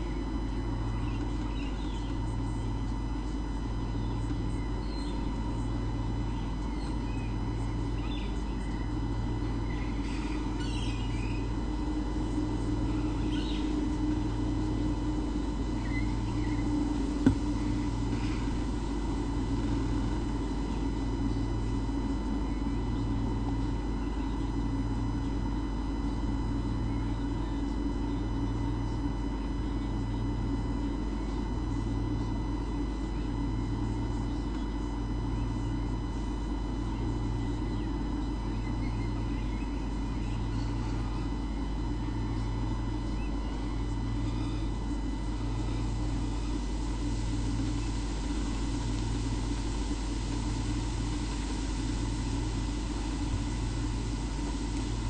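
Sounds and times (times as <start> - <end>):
electrical hum and hiss: 0.0 - 55.0
low pulsing throb: 0.0 - 55.0.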